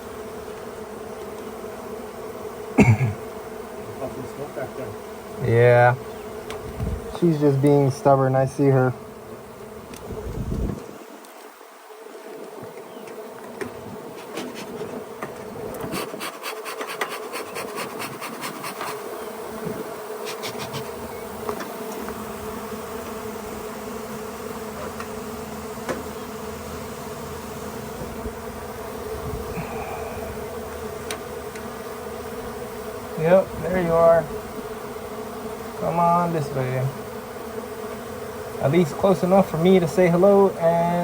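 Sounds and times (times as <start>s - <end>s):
honeybees buzzing: 0.0s - 41.0s.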